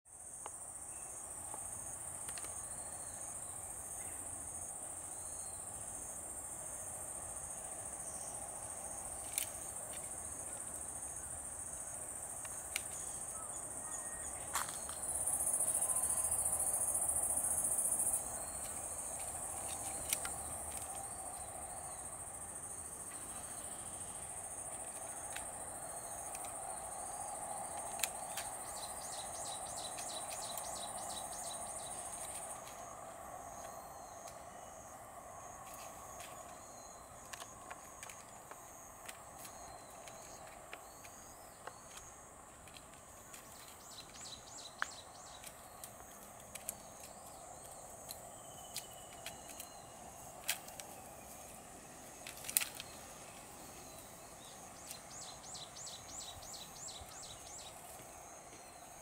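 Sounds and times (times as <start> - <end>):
insects shrilling: 6.7 - 59.0.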